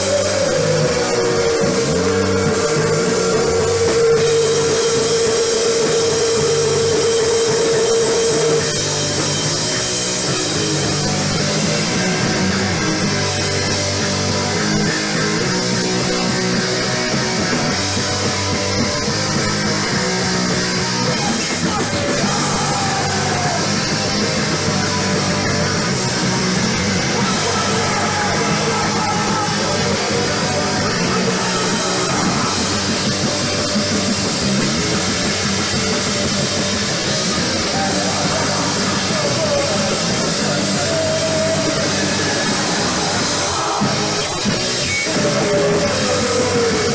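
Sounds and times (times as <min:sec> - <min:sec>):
rock band playing live: 0:00.0 - 0:46.9.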